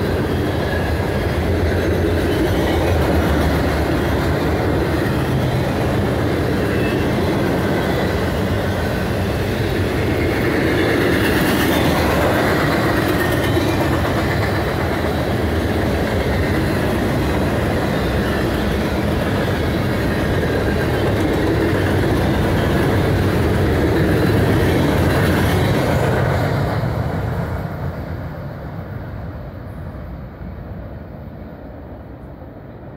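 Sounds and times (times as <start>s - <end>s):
train wheels clattering on rails: 0.0s - 29.2s.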